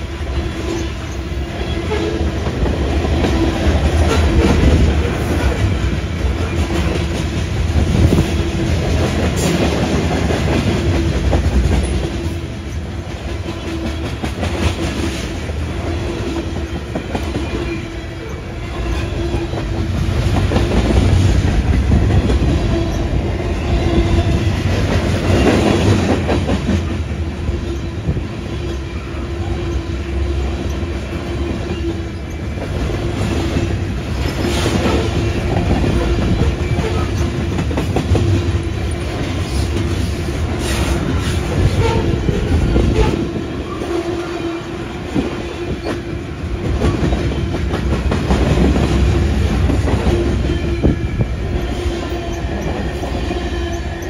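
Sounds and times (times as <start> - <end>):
train wheels clattering: 0.8 - 28.9, 30.6 - 54.0.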